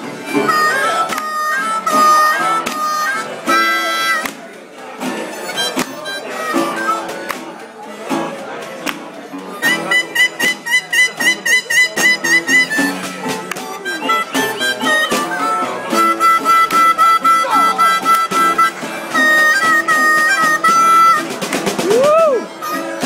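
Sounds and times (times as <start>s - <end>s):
harmonica playing: 0.0s - 8.3s, 9.4s - 23.0s.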